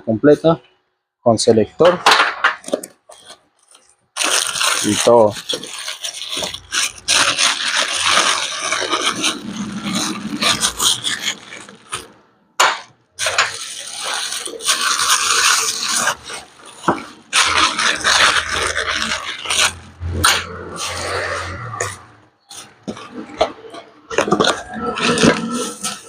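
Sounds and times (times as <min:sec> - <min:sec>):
metal engine parts scraping: 0:02.5 - 0:26.0.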